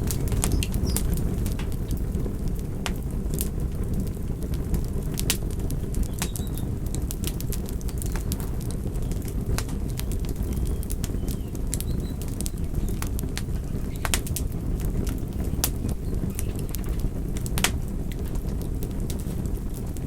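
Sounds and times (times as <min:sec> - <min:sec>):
campfire crackling: 0:00.0 - 0:20.0
wood popping and snapping: 0:00.0 - 0:20.0.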